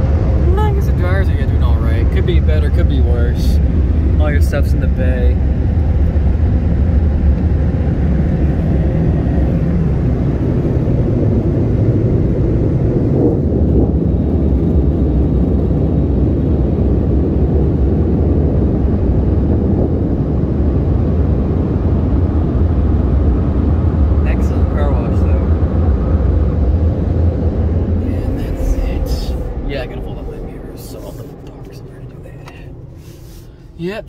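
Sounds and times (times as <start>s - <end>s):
dryer blowers rushing air: 0.0s - 34.0s.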